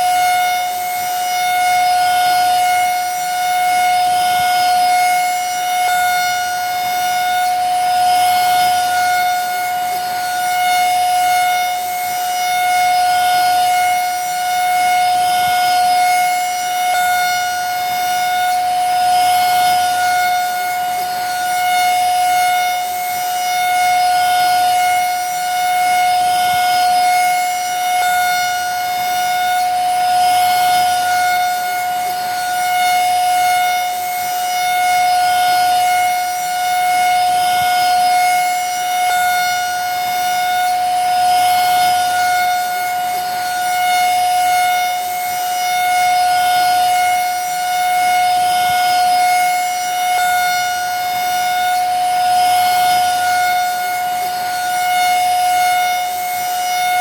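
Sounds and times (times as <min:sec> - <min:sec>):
vacuum cleaner whine: 0:00.0 - 0:57.0.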